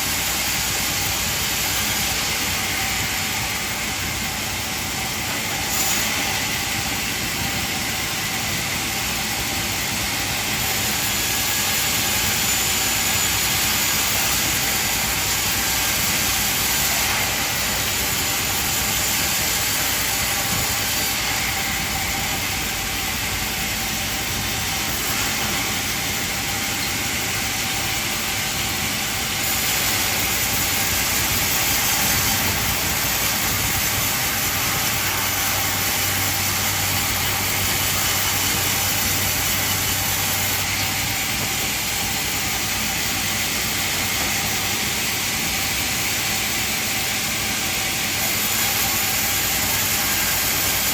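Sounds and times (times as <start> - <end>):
band sawmill running: 0.0 - 50.9.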